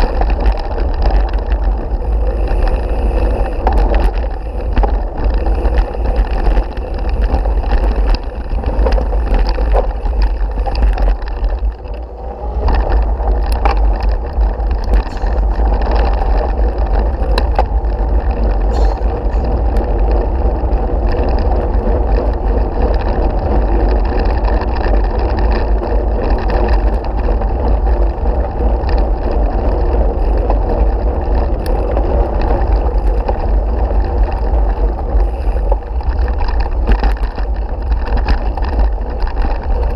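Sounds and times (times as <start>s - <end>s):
bike rattling clicks: 0.0s - 39.9s
bike tyre noise on gravel: 0.0s - 39.9s
wind buffeting microphone: 0.0s - 39.9s.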